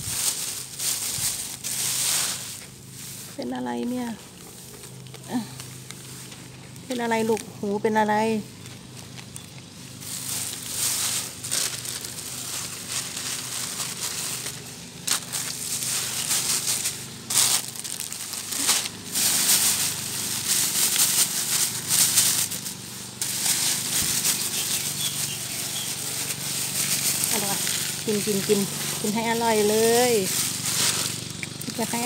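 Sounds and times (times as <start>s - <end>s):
plastic bag crinkling: 0.0s - 32.0s.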